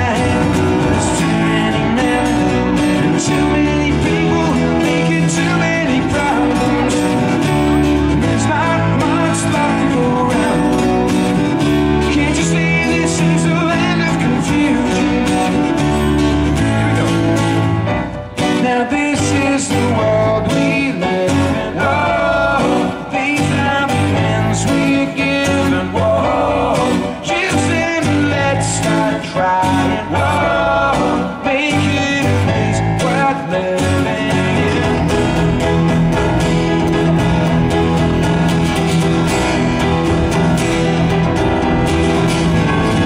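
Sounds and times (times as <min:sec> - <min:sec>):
man singing: 0:00.0 - 0:36.9
live rock band playing: 0:00.0 - 0:43.0.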